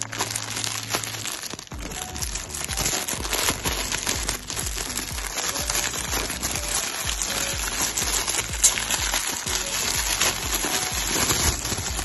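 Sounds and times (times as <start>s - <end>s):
background music with low beat: 0.0s - 12.0s
plastic bag crinkling: 0.0s - 12.0s.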